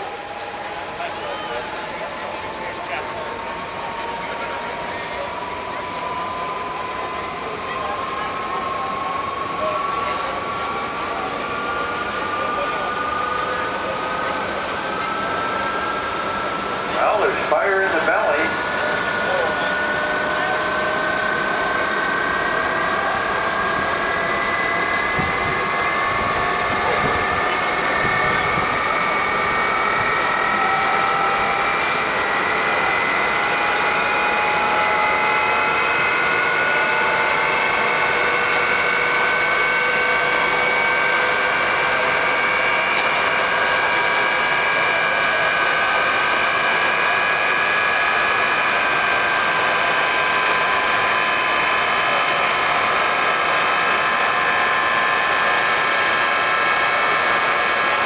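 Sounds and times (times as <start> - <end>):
jet engine turbine whine: 0.0 - 58.0.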